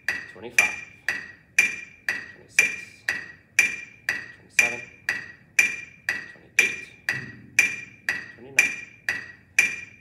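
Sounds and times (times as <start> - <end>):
metronome clicking: 0.0 - 10.0.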